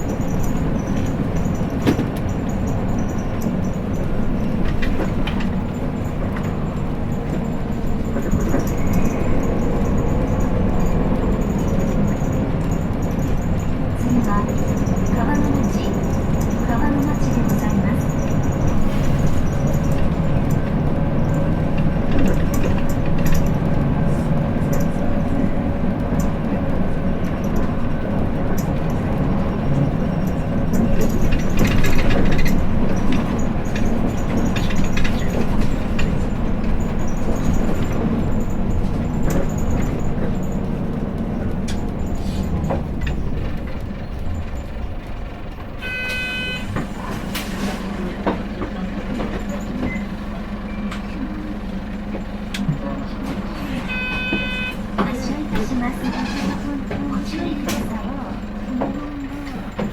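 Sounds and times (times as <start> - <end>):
bus diesel engine rumble: 0.0 - 59.9
road noise: 0.0 - 59.9.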